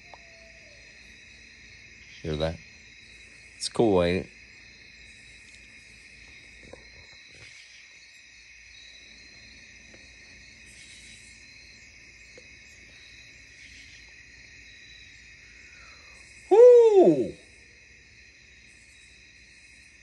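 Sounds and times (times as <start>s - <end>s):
night insects chorus: 0.0s - 20.0s.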